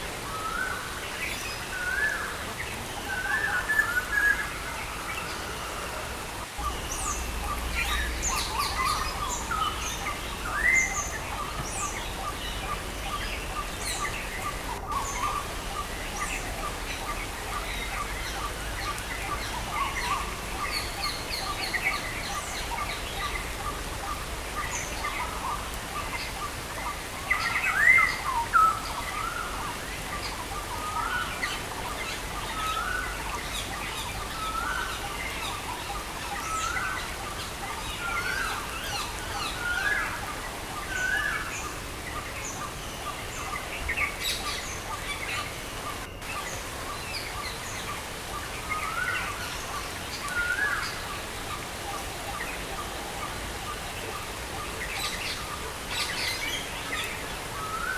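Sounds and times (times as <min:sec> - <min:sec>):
songbirds chirping: 0:00.1 - 0:57.9
rain hissing: 0:02.4 - 0:57.9.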